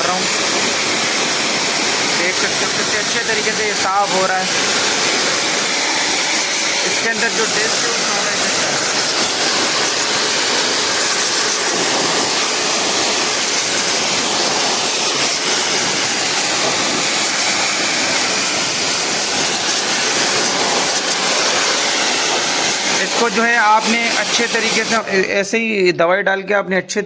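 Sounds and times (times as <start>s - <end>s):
pressure washer spraying coil: 0.0s - 25.4s.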